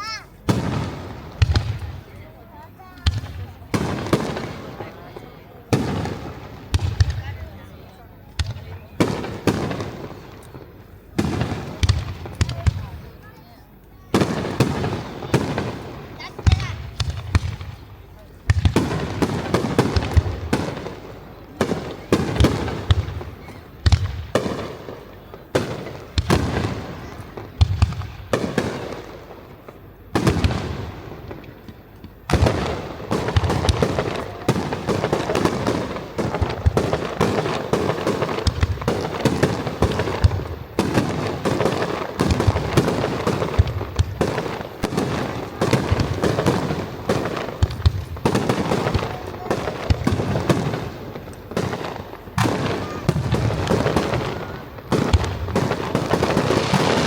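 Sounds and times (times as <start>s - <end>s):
firework shells booming: 0.0s - 13.3s, 14.1s - 57.0s
firework crackling: 0.0s - 57.0s.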